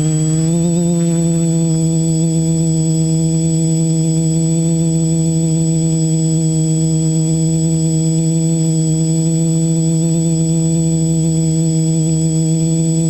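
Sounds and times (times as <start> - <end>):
drone propellers humming: 0.0 - 13.0
high whine: 0.0 - 13.0.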